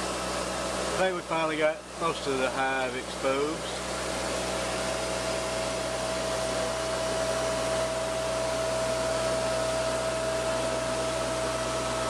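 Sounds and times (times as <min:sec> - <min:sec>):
vacuum motor humming: 0:00.0 - 0:12.0.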